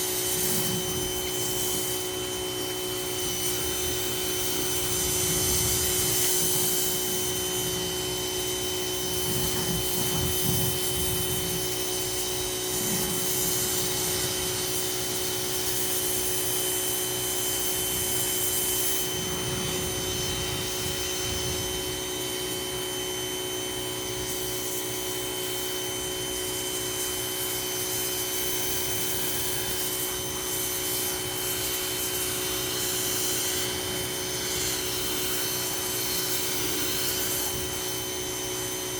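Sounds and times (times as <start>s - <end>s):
water spray hissing: 0.0s - 22.9s, 24.0s - 38.9s
pressure washer motor whine: 0.0s - 38.9s.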